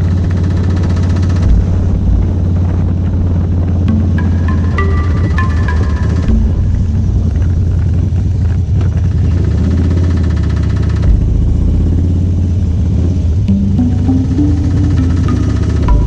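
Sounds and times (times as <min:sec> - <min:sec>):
motorcycle engine running: 0:00.0 - 0:04.2, 0:06.3 - 0:16.0.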